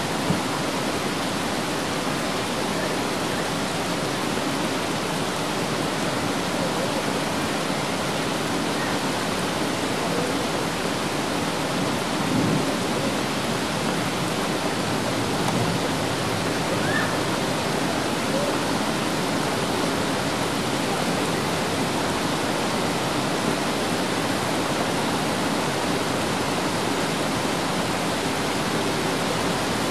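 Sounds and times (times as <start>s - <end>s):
heavy rain on water: 0.0s - 29.9s.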